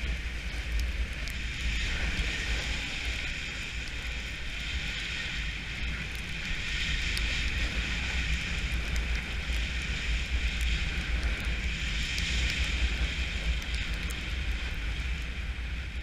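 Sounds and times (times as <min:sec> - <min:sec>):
snowboard sliding over snow: 0:00.0 - 0:16.0
wind buffeting microphone: 0:00.0 - 0:16.0.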